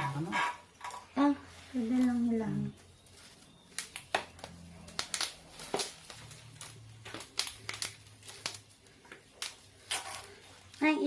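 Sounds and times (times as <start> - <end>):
plastic packaging crinkling: 1.6 - 11.0.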